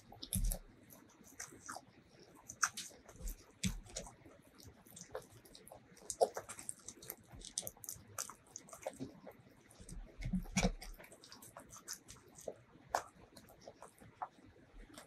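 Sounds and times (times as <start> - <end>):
fingers squishing rice: 0.0 - 15.0
wet chewing and mouth smacks: 0.0 - 15.0.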